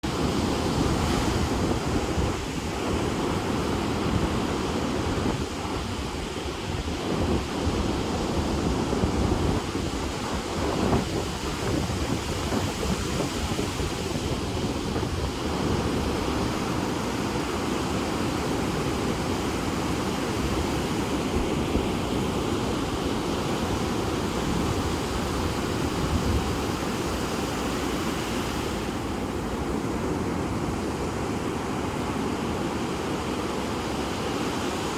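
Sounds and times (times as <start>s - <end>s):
sea surf breaking on shore: 0.0s - 34.9s
wind rumble on microphone: 0.0s - 34.9s.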